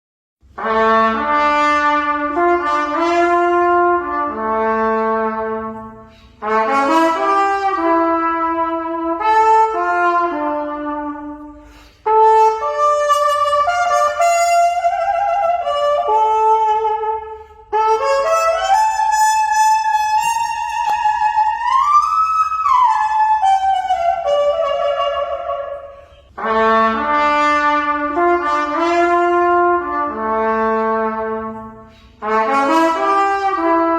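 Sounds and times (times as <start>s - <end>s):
trumpet melody: 0.4s - 33.9s.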